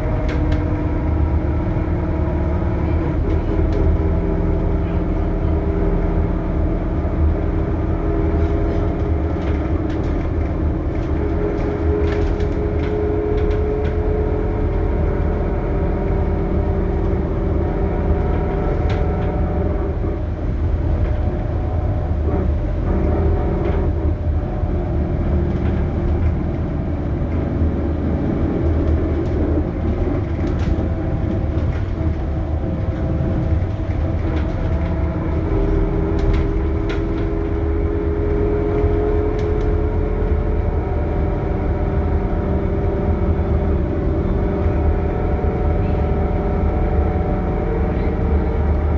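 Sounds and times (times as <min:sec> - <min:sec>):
bus engine rumble: 0:00.0 - 0:48.9.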